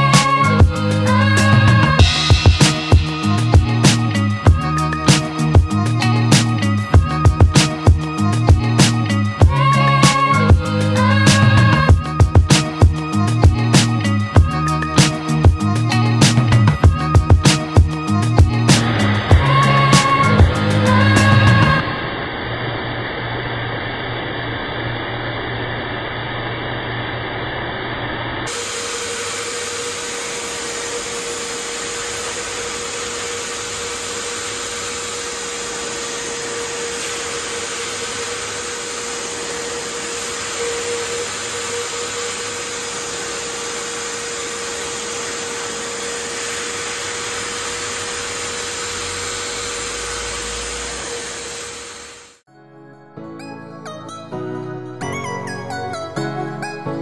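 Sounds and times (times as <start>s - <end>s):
vacuum cleaner running: 0.0s - 52.4s.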